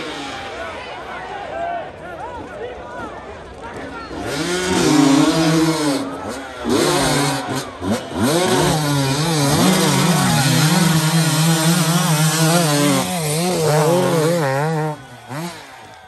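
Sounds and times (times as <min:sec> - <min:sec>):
dirt bike engines revving: 0:00.0 - 0:00.8, 0:03.1 - 0:16.0.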